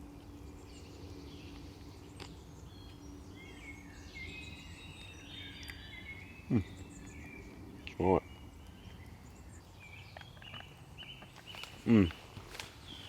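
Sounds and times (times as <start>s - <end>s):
faint low hum: 0.0s - 13.0s
wild birds singing: 0.0s - 13.0s.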